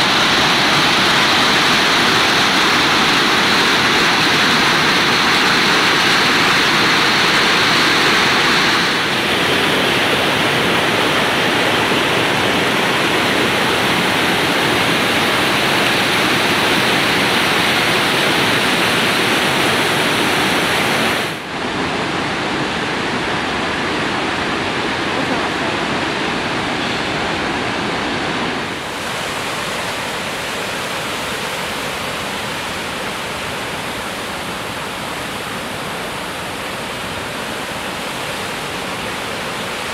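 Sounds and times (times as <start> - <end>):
creek rushing over boulders: 0.0 - 39.9.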